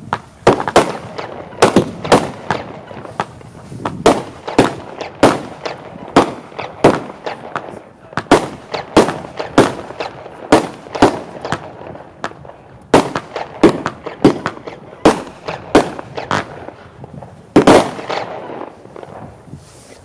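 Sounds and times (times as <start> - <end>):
firework shots firing: 0.0 - 19.5
firework bangs: 0.0 - 20.0.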